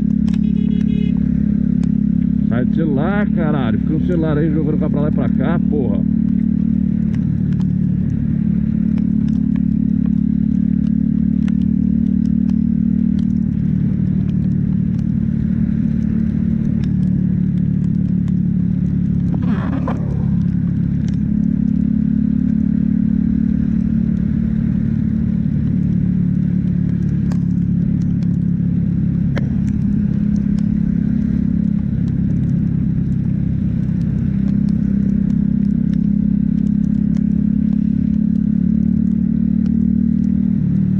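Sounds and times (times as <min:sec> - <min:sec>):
small ticks: 0:00.0 - 0:02.3, 0:06.3 - 0:40.9
motorcycle engine running: 0:00.0 - 0:40.9
road and wind noise: 0:00.0 - 0:40.9.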